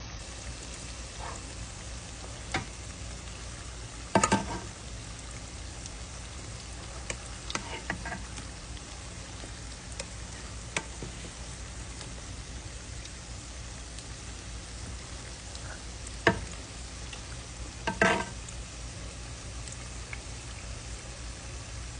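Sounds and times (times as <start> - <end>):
food sizzling in hot oil: 0.0 - 21.9.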